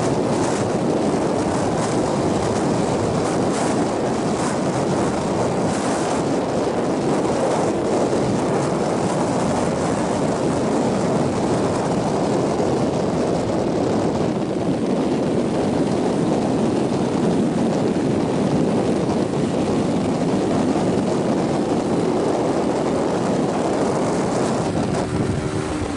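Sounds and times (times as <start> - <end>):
wind rushing over microphone: 0.0 - 25.9.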